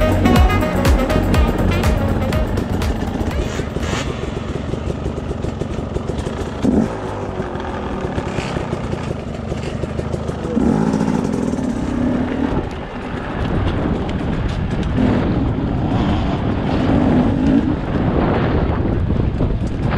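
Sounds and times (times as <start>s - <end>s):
dirt bike engine revving: 0.0s - 18.6s.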